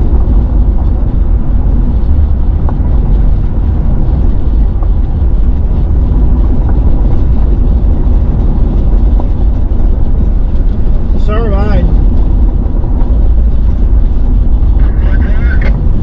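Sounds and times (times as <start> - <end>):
truck engine rumble and road noise: 0.0 - 16.0.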